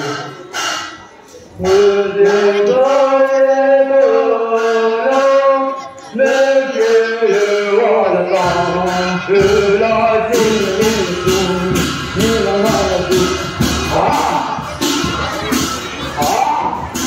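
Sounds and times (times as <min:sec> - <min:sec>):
voices singing folk melody: 0:01.5 - 0:17.0.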